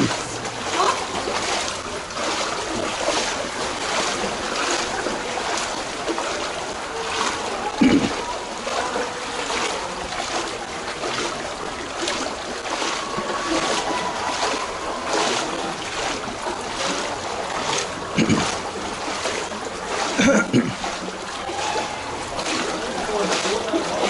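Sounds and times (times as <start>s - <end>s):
feet wading through water: 0.0s - 24.0s.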